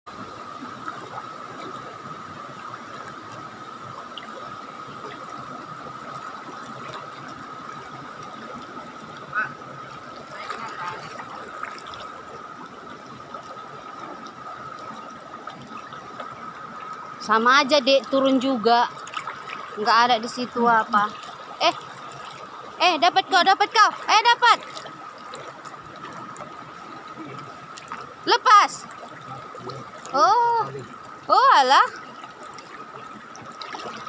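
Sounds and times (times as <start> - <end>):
river water flowing: 0.1 - 34.0.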